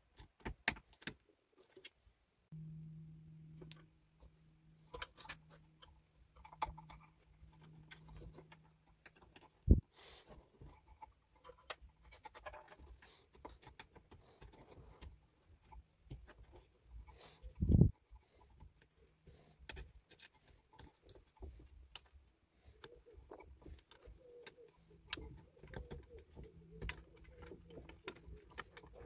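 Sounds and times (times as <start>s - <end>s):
low steady hum: 2.4s - 29.0s
wires and connectors rustling: 3.5s - 29.0s.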